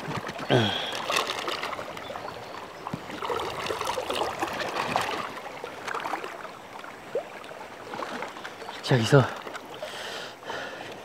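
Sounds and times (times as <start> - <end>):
shallow river burbling and splashing: 0.0 - 11.0.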